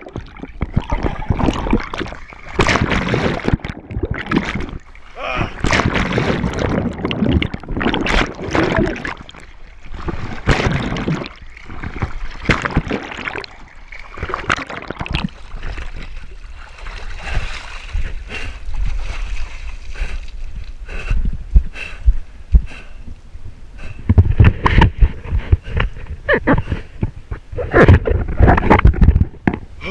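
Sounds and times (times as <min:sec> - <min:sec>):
water splashing and churning: 0:00.0 - 0:23.1, 0:23.7 - 0:29.9.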